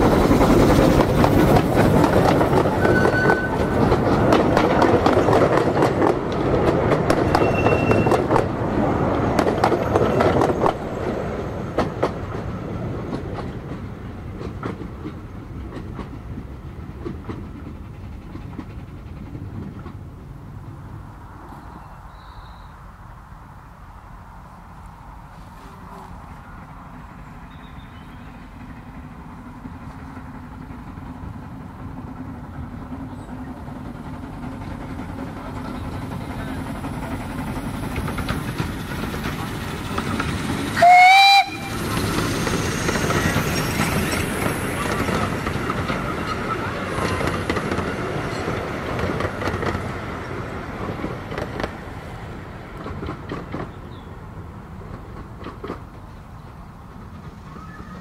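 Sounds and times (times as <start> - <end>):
steam locomotive rumbling: 0.0 - 58.0
train wheels on rails: 0.0 - 58.0.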